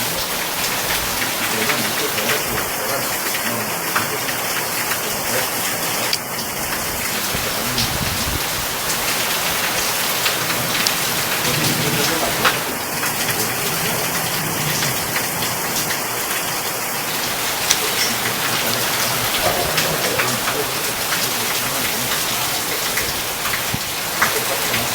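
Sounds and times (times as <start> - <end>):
rain drops splashing: 0.0 - 24.9
rain falling: 0.0 - 24.9.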